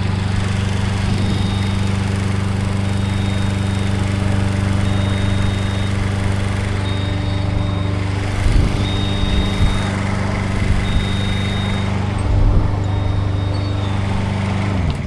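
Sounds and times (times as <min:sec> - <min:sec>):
engine running steadily: 0:00.0 - 0:15.0
high thin tone: 0:00.8 - 0:14.7.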